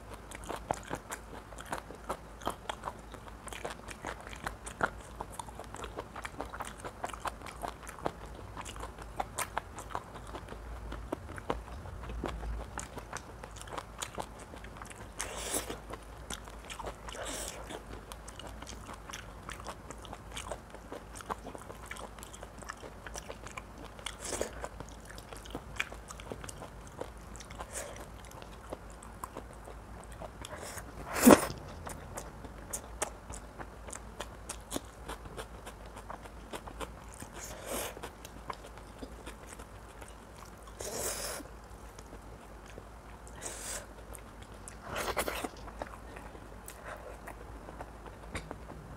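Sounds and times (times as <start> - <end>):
chewing and biting food: 0.0 - 48.9.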